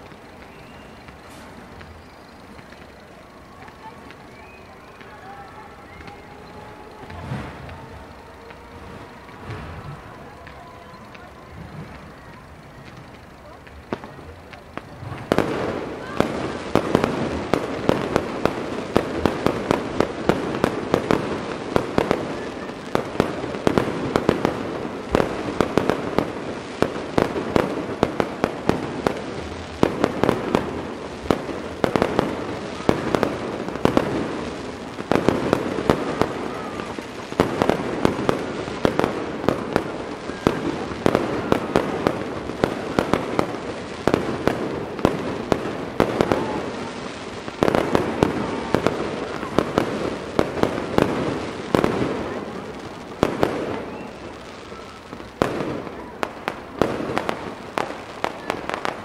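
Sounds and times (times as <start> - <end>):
fireworks bursts and crackling: 0.0 - 59.0.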